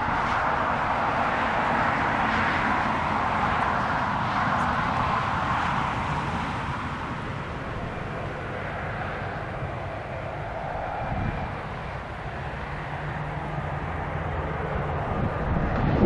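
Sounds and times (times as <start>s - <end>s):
propeller aircraft engine drone: 0.0s - 16.0s.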